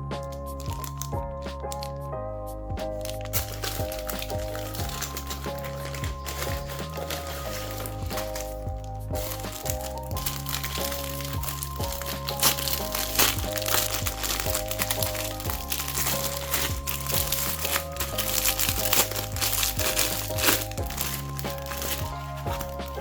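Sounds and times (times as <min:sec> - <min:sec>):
plastic packaging crinkling: 0:00.0 - 0:02.1, 0:02.8 - 0:23.0
background music with bass line: 0:00.0 - 0:23.0.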